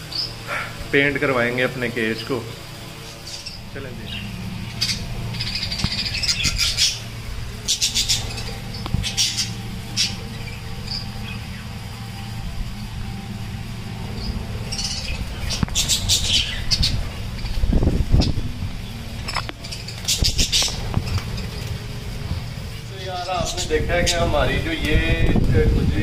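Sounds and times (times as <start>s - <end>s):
budgerigars chirping: 2.1s - 24.7s.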